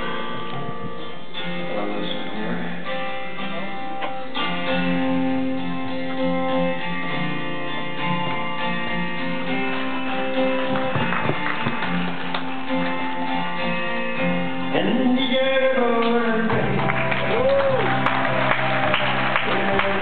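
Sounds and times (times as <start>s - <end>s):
electric guitars playing: 0.0s - 20.0s
strummed acoustic guitar: 0.0s - 20.0s.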